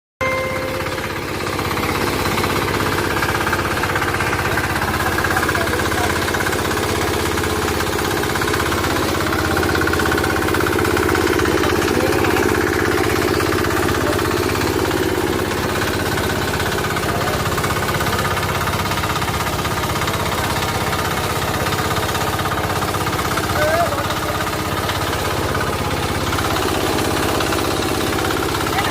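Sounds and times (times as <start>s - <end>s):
engine running with fast pulse: 0.2s - 28.9s.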